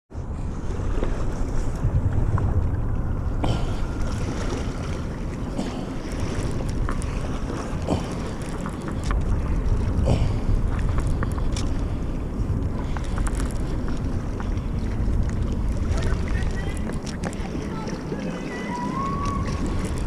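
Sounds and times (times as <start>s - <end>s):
wind buffeting microphone: 0.1s - 20.0s.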